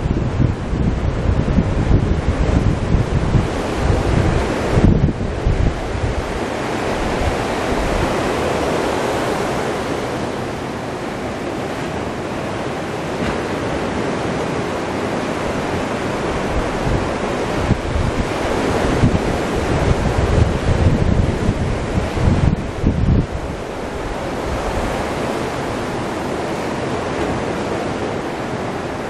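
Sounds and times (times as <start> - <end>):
surf breaking on a beach: 0.0 - 29.0
wind buffeting microphone: 0.0 - 29.0.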